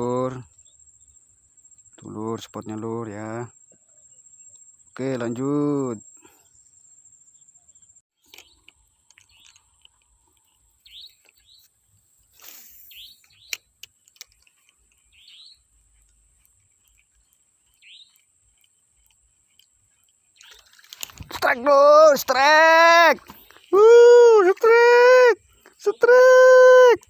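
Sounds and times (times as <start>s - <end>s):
small birds chirping: 0.0s - 24.7s.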